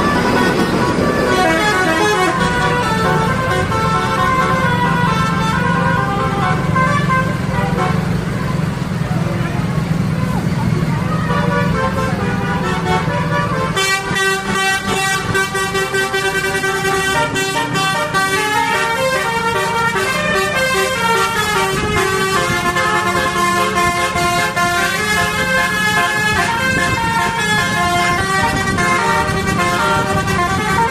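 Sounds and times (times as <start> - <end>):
multi-tone bus horns playing tune: 0.0 - 9.0, 10.8 - 30.9
low engine rumble: 0.0 - 30.9.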